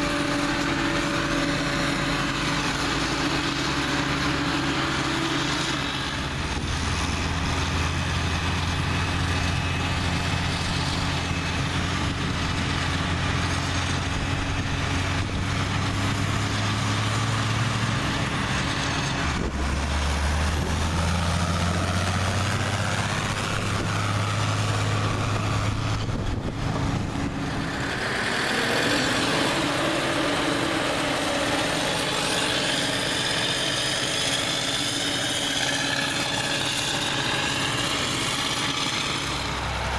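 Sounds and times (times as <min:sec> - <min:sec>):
diesel farm machinery engine: 0:00.0 - 0:39.9
higher engine sound: 0:00.0 - 0:39.9.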